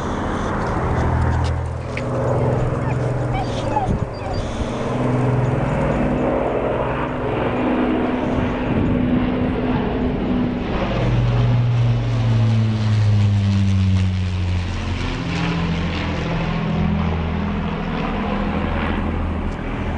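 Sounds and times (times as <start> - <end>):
propeller plane engines droning: 0.0 - 19.9.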